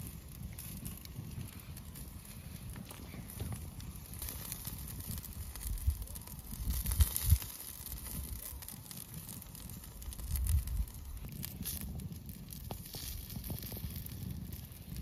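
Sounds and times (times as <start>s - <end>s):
crackles from coals: 0.0s - 15.0s
meat sizzling on a grill: 0.0s - 15.0s.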